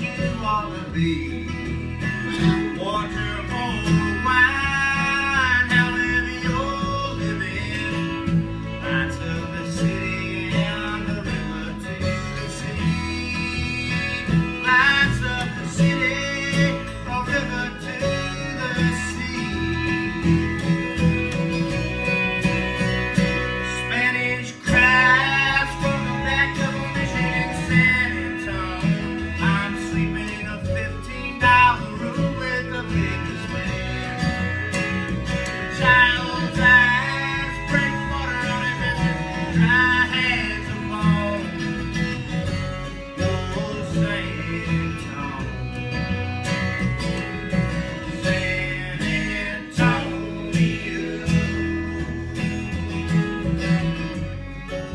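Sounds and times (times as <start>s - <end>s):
bluegrass string band music: 0.0s - 54.9s.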